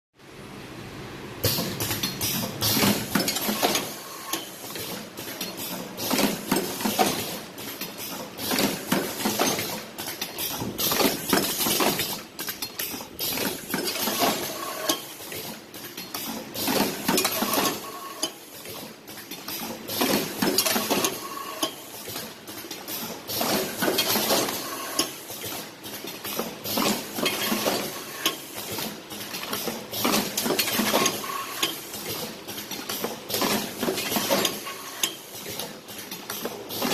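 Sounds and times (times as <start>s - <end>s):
machine clattering: 1.4s - 36.9s.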